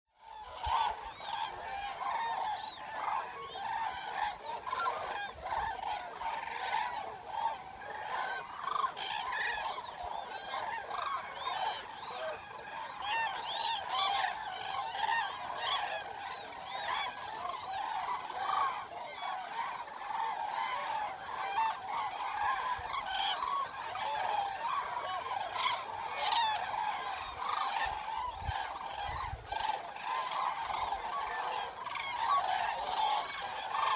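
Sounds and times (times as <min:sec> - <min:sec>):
cranes trumpeting calls: 0:00.2 - 0:33.9.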